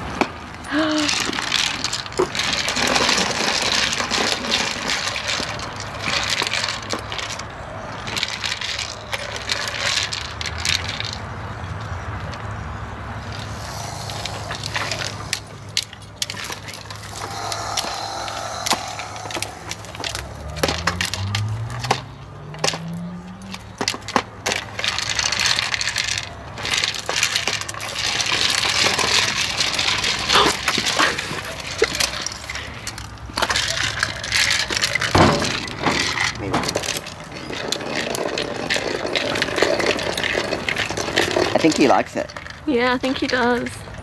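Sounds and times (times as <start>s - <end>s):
plastic ball clattering on concrete: 0.0s - 44.0s
treats rattling inside ball: 0.7s - 44.0s.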